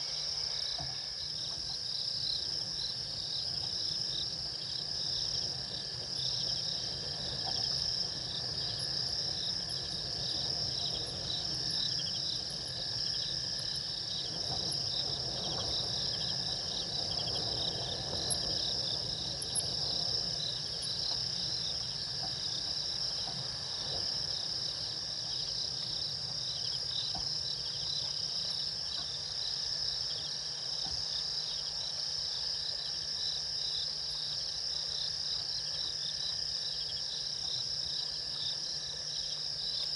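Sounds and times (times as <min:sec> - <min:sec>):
faint low insect trill: 0:00.0 - 0:39.9
fast pulsing insect chirp: 0:00.0 - 0:39.9
shrill insect trill: 0:00.0 - 0:39.9.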